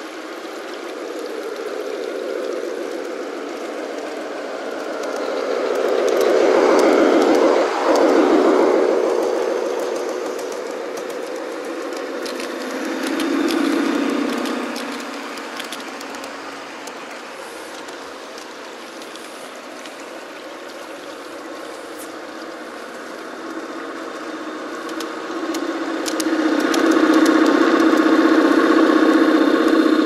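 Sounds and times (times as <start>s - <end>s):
model train motor humming: 0.0s - 30.0s
wheels clicking on rails: 0.0s - 30.0s.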